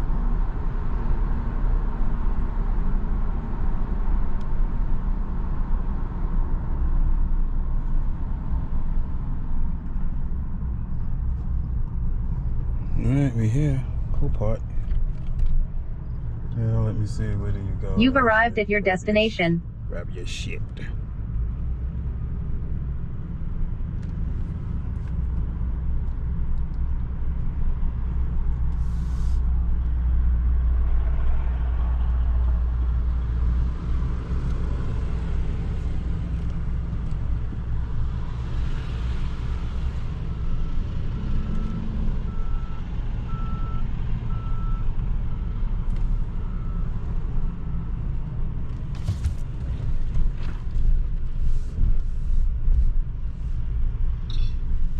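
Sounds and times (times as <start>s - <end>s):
pickup truck engine and road rumble: 0.0s - 54.9s.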